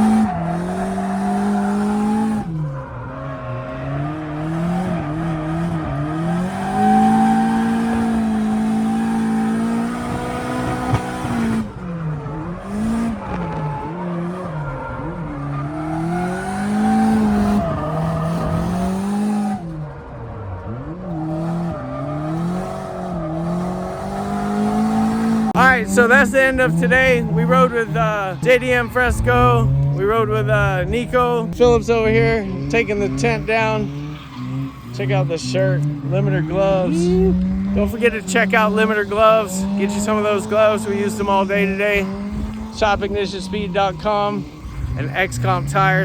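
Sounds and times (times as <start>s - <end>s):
car engine at high revs: 0.0s - 46.0s
tires squealing: 0.0s - 46.0s.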